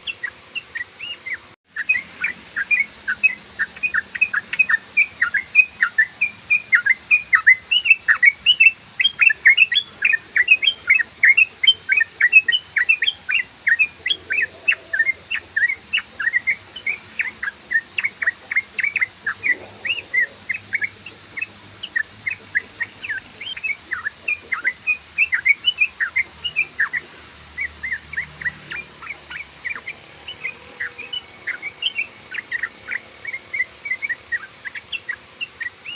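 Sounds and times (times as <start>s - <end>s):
bird singing bubbly whistled chirps: 0.0s - 35.9s.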